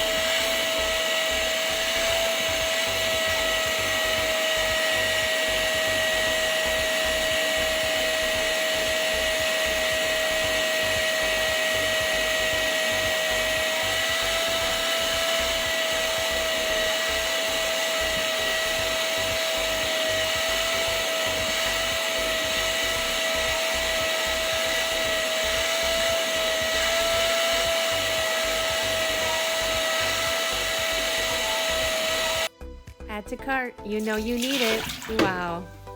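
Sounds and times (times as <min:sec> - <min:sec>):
vacuum cleaner motor running: 0:00.0 - 0:32.5, 0:34.4 - 0:35.6.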